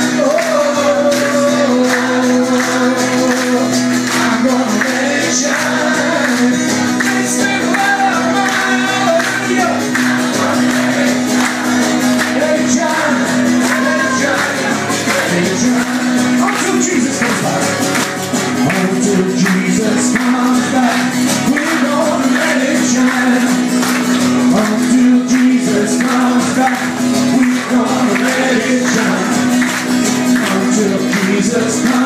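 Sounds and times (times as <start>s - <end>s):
man singing into microphone: 0.0s - 11.3s, 12.1s - 17.8s, 18.5s - 29.6s, 30.2s - 32.0s
acoustic guitar strumming: 0.0s - 32.0s.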